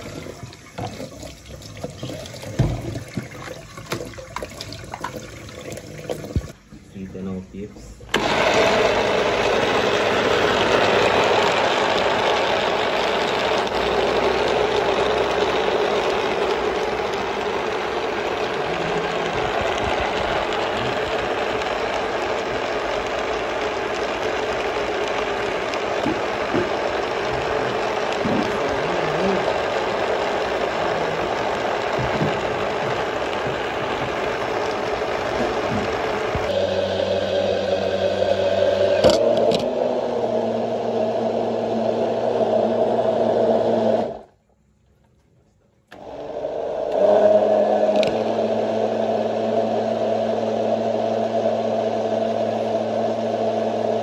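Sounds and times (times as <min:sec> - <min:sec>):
blender running: 0:00.0 - 0:01.2, 0:02.0 - 0:03.3, 0:08.1 - 0:44.3, 0:45.9 - 0:54.0.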